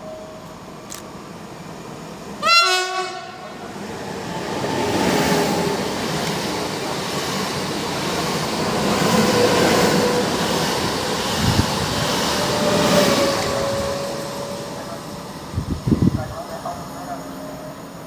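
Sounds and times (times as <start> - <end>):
faint train whine: 0.0 - 18.0
train wheels rumbling on rail: 0.0 - 18.0.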